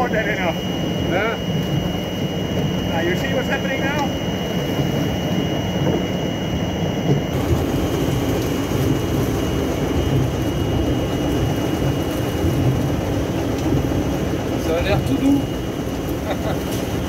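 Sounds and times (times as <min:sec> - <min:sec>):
high machine whine: 0:00.0 - 0:17.0
machine rumbling: 0:00.0 - 0:17.0.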